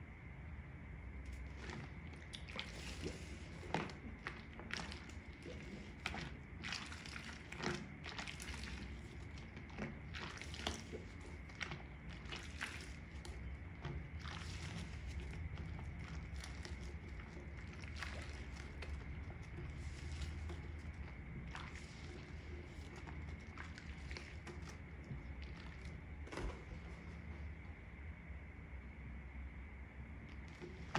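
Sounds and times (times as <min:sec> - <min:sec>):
wet sponge squelching in water: 0:01.1 - 0:28.1, 0:30.2 - 0:30.9.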